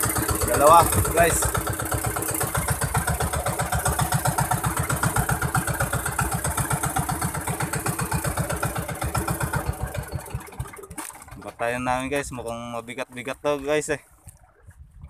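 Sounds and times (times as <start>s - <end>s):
boat engine chugging: 0.0s - 14.7s.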